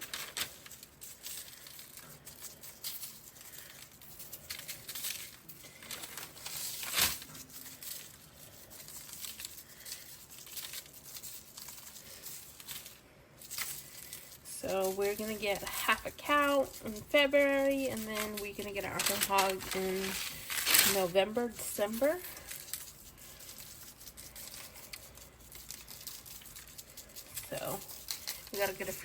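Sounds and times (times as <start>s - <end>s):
rustling crinkling handling noise: 0.0s - 29.0s.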